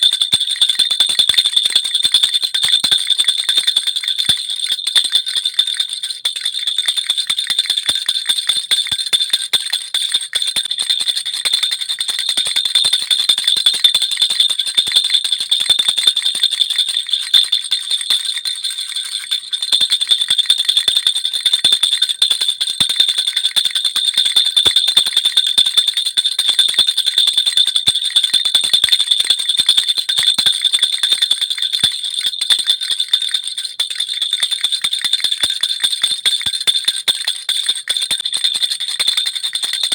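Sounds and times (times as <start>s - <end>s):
baby rattle bells jingling: 0.0s - 39.9s.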